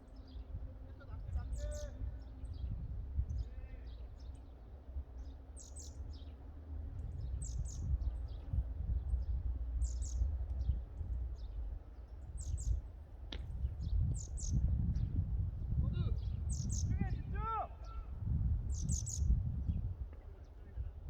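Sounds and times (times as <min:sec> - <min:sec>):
bird chirping: 0:00.0 - 0:20.9.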